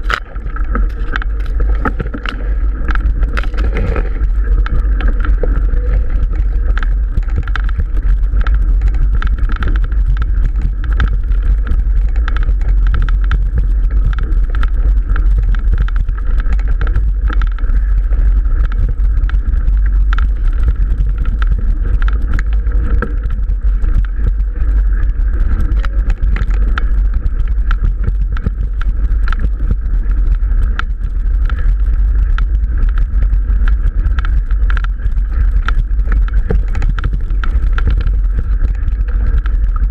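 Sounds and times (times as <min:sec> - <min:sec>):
bike rattling and clicking: 0:00.0 - 0:39.9
wind buffeting microphone: 0:00.0 - 0:39.9.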